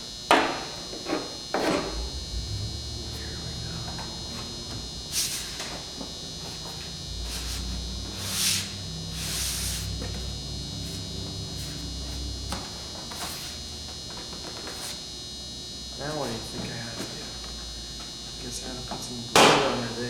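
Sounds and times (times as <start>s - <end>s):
high-pitched whine: 0.0s - 20.0s
low hum: 1.5s - 19.3s.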